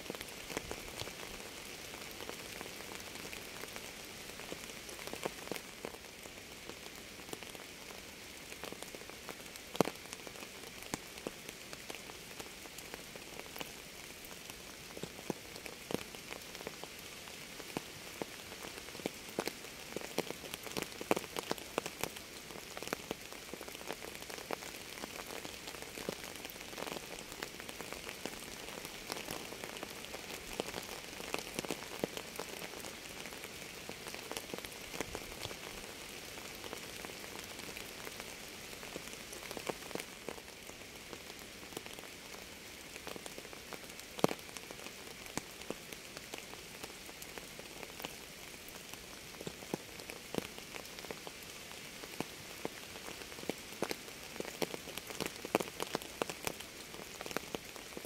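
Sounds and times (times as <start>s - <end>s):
steady rain falling: 0.0s - 58.0s
raindrops tapping close by: 8.6s - 58.0s.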